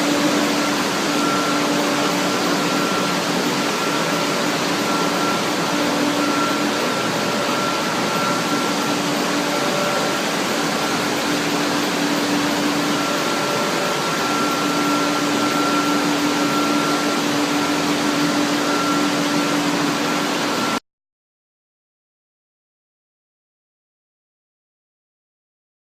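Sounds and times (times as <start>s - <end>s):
machinery whirring: 0.0s - 20.8s.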